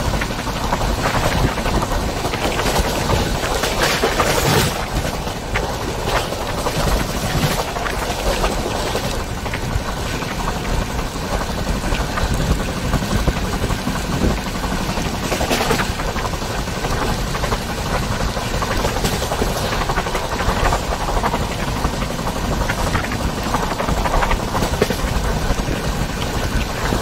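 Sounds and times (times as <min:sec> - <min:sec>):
sharp train clatters: 0:00.0 - 0:27.0
train wheels rumbling and rattling: 0:00.0 - 0:27.0.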